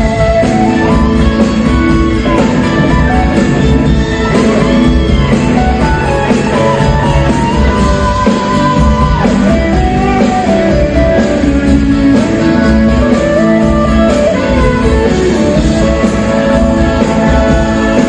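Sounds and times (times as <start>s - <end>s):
electric guitar melody with bent notes: 0.0s - 18.0s
live rock band playing: 0.0s - 18.0s.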